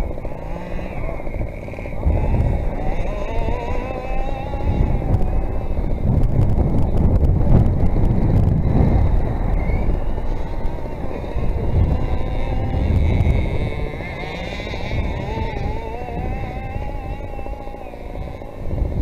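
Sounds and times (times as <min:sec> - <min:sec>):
heavy low rumble: 0:00.0 - 0:19.0
two-stroke engine revving: 0:00.0 - 0:19.0.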